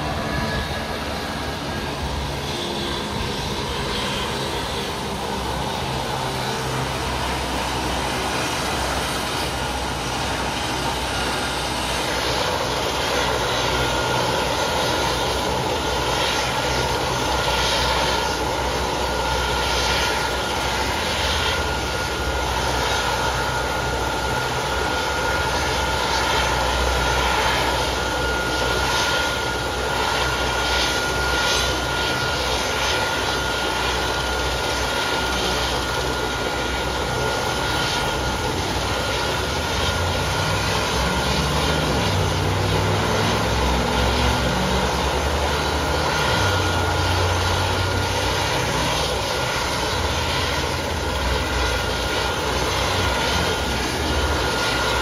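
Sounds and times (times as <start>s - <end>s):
helicopter rotor running: 0.0s - 55.0s
high turbine whine: 0.0s - 55.0s.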